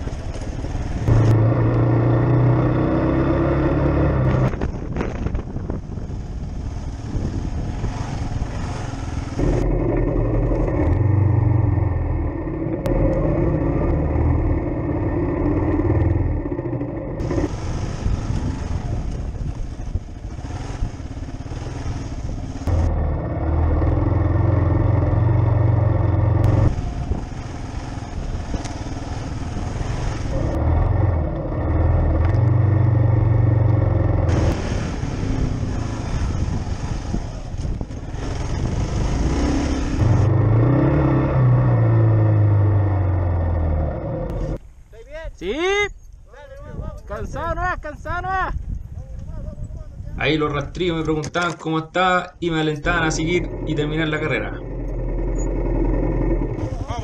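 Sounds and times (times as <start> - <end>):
motorcycle engine running: 0.0 - 44.6, 52.8 - 57.0.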